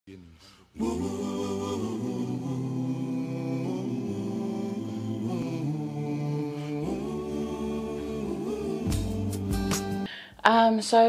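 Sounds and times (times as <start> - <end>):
a cappella choir singing: 0.7 - 10.1.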